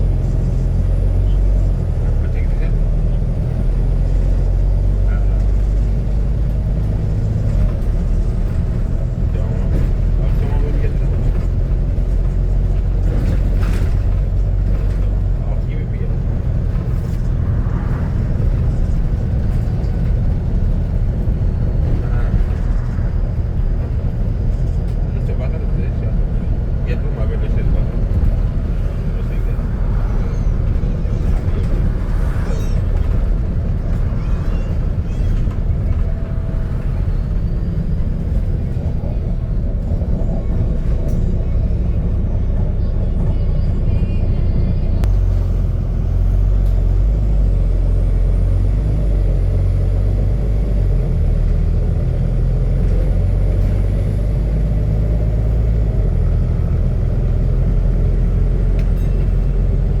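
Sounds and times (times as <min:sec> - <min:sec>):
bus diesel engine drone: 0:00.0 - 1:00.0.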